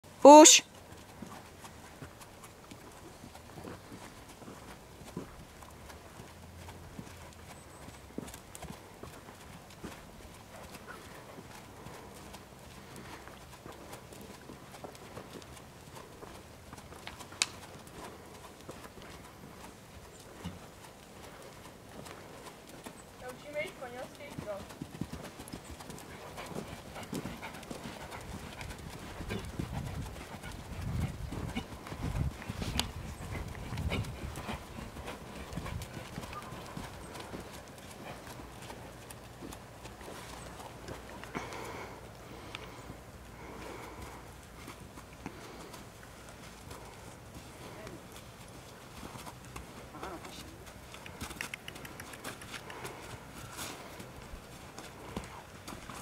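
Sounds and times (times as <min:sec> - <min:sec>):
horse hoofbeats on soft dirt: 0:00.0 - 0:56.0.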